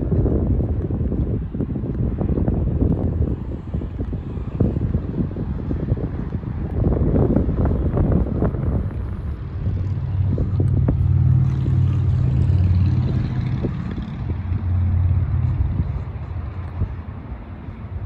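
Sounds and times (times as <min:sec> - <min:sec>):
vehicle engine humming: 0:00.0 - 0:18.0
wind rumbling on microphone: 0:00.0 - 0:18.0.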